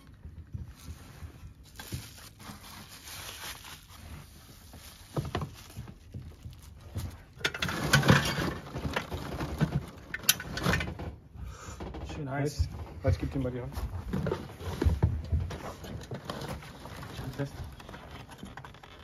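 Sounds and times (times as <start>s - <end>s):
bubble wrap and plastic rustling: 0.0s - 11.1s, 12.1s - 19.0s.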